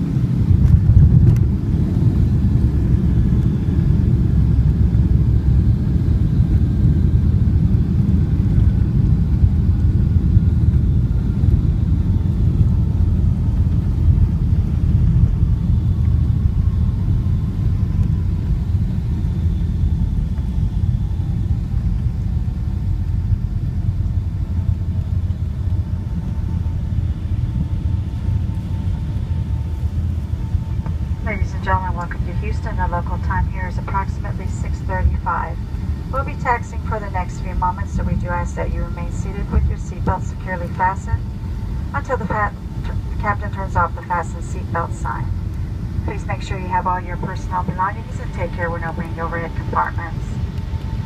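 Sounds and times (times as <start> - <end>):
aircraft cabin rumble: 0.0 - 51.0.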